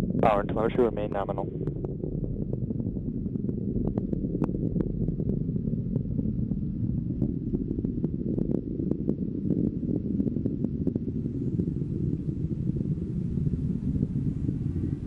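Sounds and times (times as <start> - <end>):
rocket engine rumble with crackles: 0.0 - 15.0.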